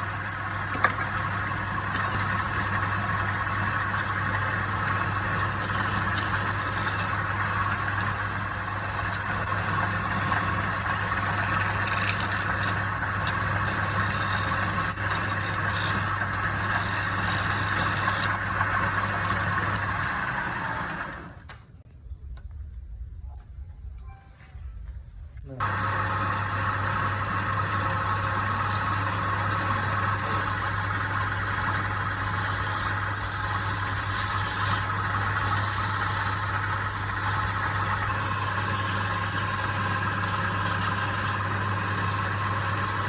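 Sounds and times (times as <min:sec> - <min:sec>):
lathe motor humming and whining: 0:00.0 - 0:21.4, 0:25.6 - 0:43.0.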